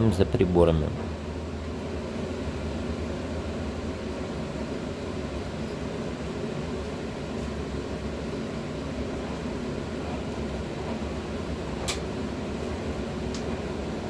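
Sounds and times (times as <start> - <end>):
ventilation fan hum: 0.0 - 14.0.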